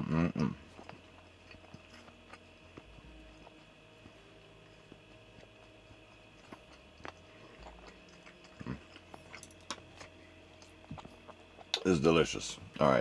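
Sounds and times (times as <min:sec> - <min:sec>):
person chewing: 0:00.0 - 0:11.8.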